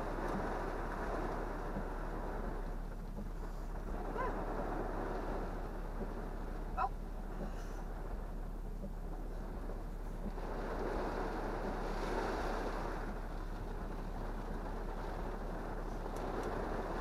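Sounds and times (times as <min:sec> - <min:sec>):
heavy rain and wind on vehicle: 0:00.0 - 0:17.0.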